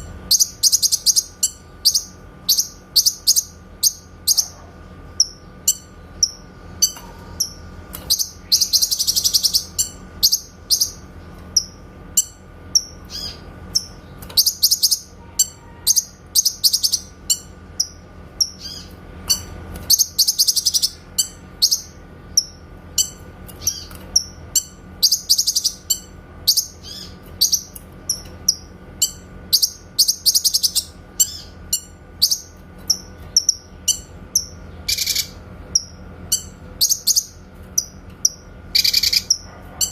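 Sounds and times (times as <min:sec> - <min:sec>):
faint steady hum: 0:00.0 - 0:39.9
bird rapid trill: 0:00.3 - 0:04.6, 0:05.2 - 0:39.9
songbird sharp high chirps: 0:05.2 - 0:11.0, 0:11.6 - 0:39.9.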